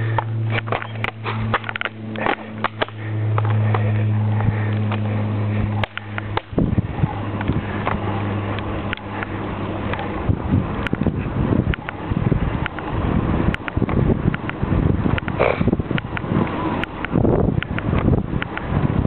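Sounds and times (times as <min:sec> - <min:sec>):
sharp clicks and rattles: 0:00.0 - 0:05.1, 0:05.7 - 0:06.7, 0:07.4 - 0:10.1, 0:10.8 - 0:12.0, 0:12.6 - 0:12.9, 0:13.5 - 0:18.7
low hum: 0:00.0 - 0:19.0
wind buffeting microphone: 0:00.0 - 0:19.0.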